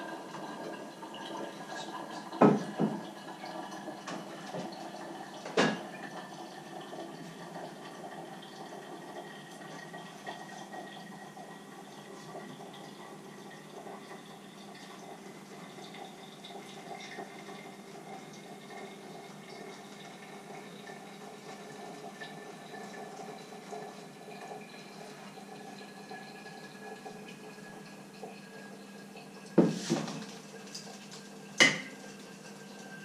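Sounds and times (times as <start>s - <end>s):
water pouring and splashing: 0.0s - 33.0s.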